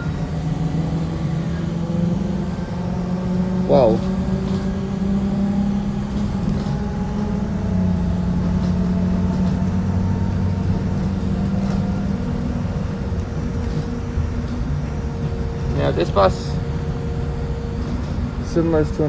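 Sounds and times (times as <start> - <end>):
bus engine hum: 0.0 - 19.0
road rumble: 0.0 - 19.0.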